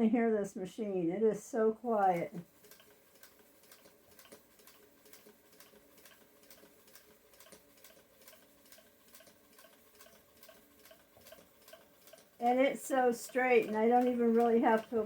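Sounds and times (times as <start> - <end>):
sewing machine faint ticking: 2.0 - 15.0.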